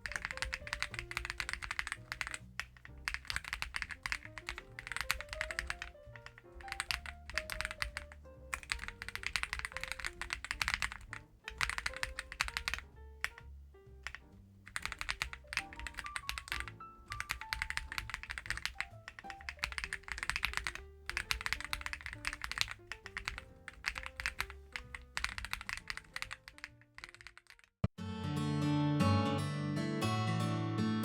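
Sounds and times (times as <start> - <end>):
background music: 0.0 - 26.9, 28.0 - 31.0
mechanical keyboard typing: 0.0 - 27.7.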